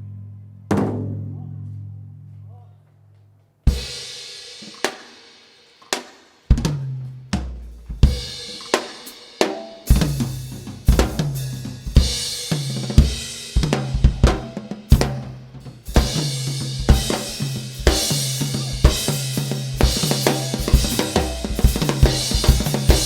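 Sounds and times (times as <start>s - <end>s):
drums and cymbals: 3.7s - 23.0s.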